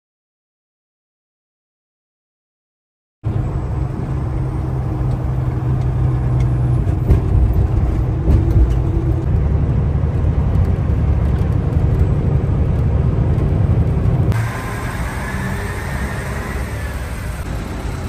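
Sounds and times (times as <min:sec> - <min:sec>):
truck diesel engine drone: 0:03.2 - 0:18.0.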